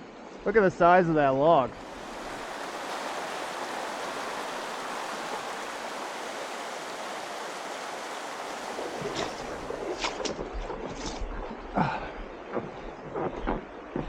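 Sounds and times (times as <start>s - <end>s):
creek water rushing: 1.7s - 14.0s.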